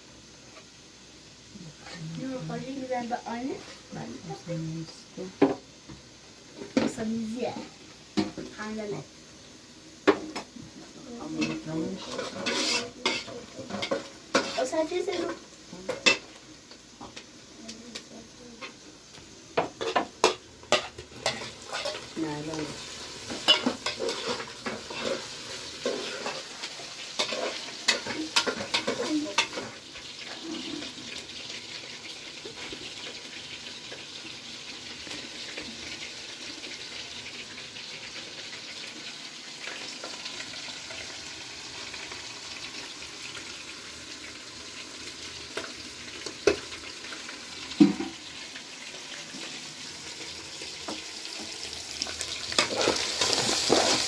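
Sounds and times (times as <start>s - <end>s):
sizzling hiss: 0.0s - 54.0s.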